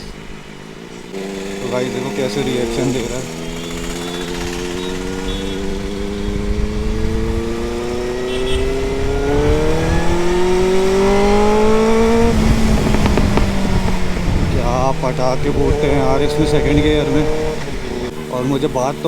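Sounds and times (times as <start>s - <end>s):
exhaust crackles and pops: 0.0s - 19.0s
motorcycle engine accelerating: 0.0s - 19.0s.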